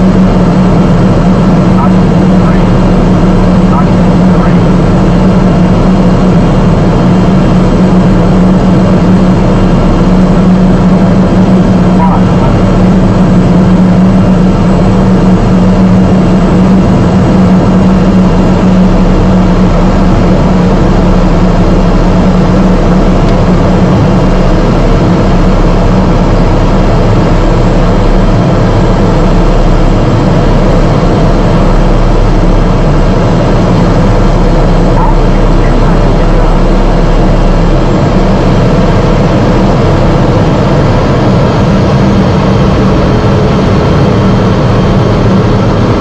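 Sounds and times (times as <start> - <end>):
propeller aircraft engine droning: 0.0 - 46.0.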